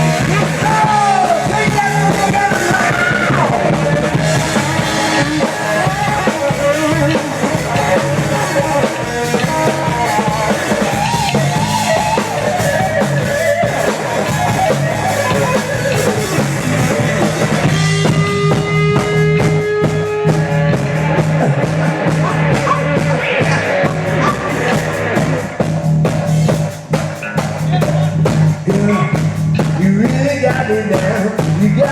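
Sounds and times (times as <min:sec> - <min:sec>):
rock band playing: 0:00.0 - 0:31.9.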